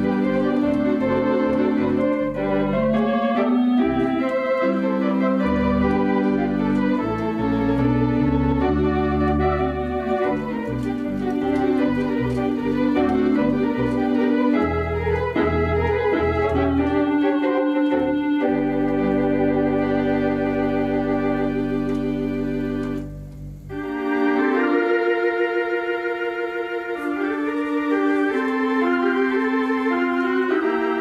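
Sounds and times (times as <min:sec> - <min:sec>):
organ chords: 0:00.0 - 0:31.0
organ pedal bass notes: 0:00.0 - 0:31.0.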